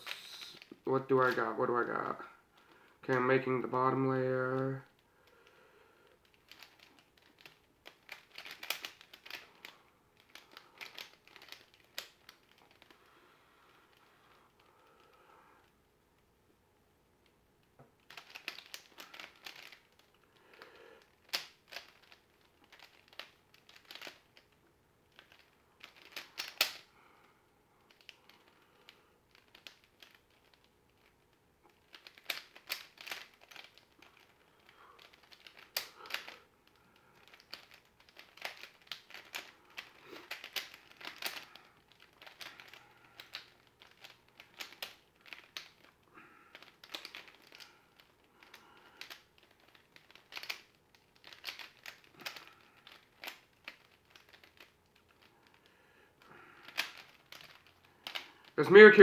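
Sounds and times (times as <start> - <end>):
puzzle cube clicking and scraping: 0.0 - 2.2, 6.1 - 13.0, 18.0 - 26.9, 27.8 - 55.7, 56.5 - 58.6.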